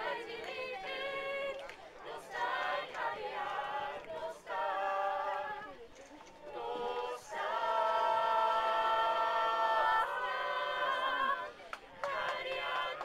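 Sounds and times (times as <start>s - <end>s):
group singing unaccompanied: 0.0s - 5.8s, 6.5s - 13.0s.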